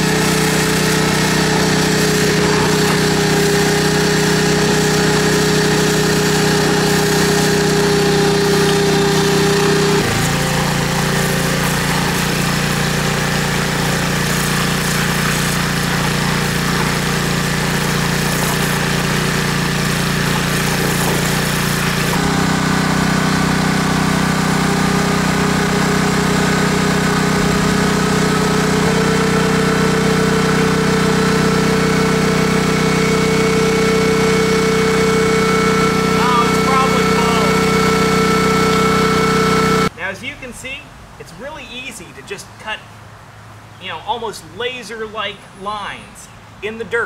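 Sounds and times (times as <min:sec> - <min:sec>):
pressure washer spraying soil: 0:00.0 - 0:39.9
wet dry vacuum whining: 0:00.0 - 0:40.0.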